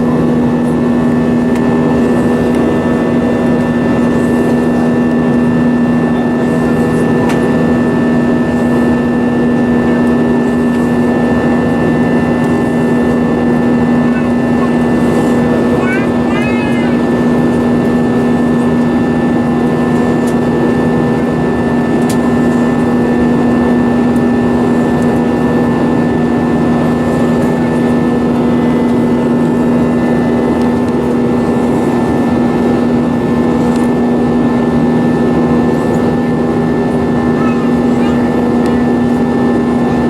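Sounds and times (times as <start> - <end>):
jet engines droning in cabin: 0.0 - 40.0.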